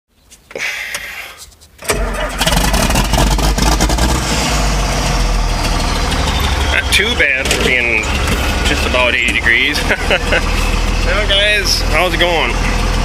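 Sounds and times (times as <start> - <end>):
engine starting and running: 1.8 - 13.0.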